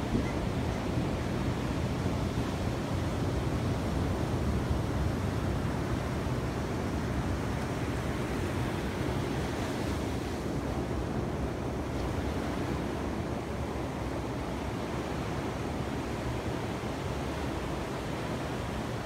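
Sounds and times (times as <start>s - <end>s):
ocean surf washing on beach: 0.0s - 19.0s
wind rumble on microphone: 0.0s - 19.0s.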